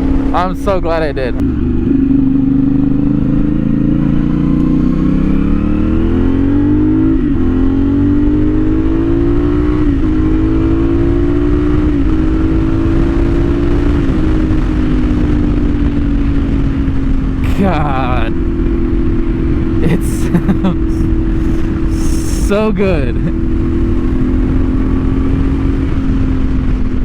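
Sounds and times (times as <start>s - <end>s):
motorcycle engine revving: 1.4s - 27.0s.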